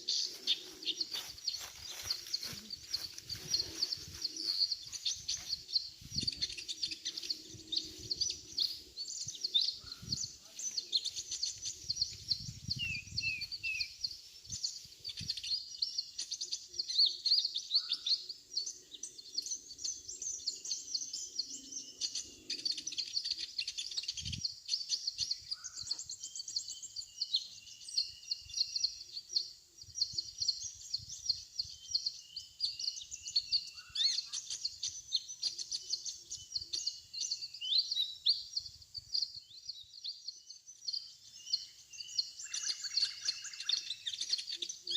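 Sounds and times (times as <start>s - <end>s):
birds twittering: 0.0s - 44.9s.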